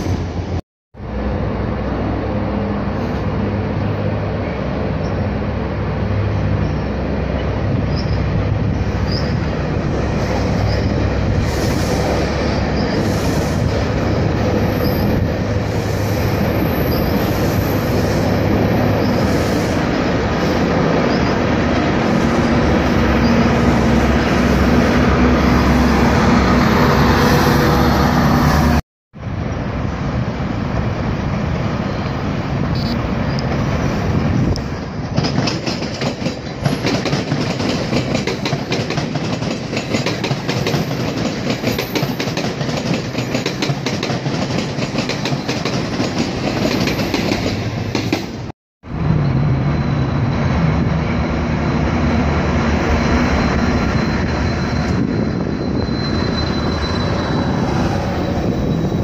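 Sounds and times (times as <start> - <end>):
train passing with rumble: 0.0 - 59.0.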